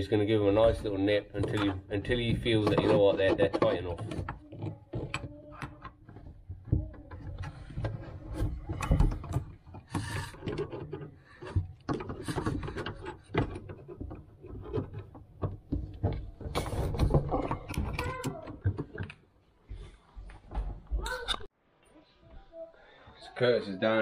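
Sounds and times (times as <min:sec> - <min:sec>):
spanner and tools knocking and scraping: 0:00.0 - 0:19.3.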